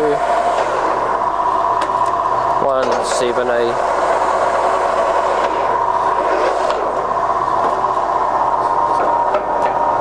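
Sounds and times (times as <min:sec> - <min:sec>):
lathe running with whining tone: 0:00.0 - 0:10.0.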